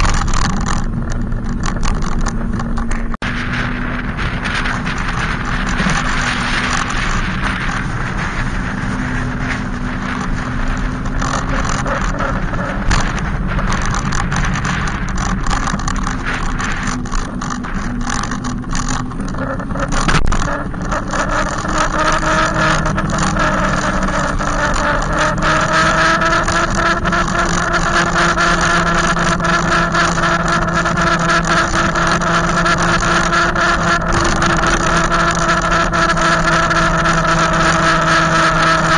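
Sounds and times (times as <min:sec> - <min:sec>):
e-bike motor hum: 0:00.0 - 0:38.9
steady rushing noise: 0:00.0 - 0:38.9.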